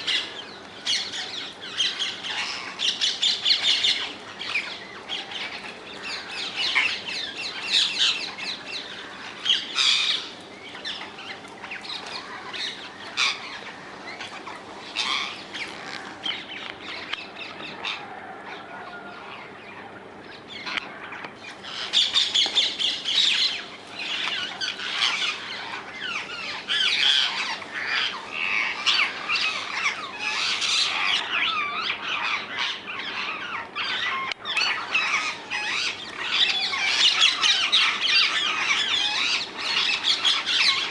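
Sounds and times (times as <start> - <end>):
parakeets squawking: 0.0 - 18.1, 20.5 - 40.9.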